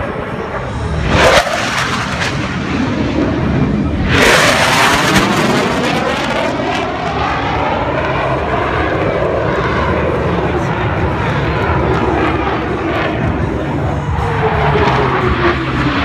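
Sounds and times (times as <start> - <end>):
jet passing low and climbing: 0.0 - 16.0.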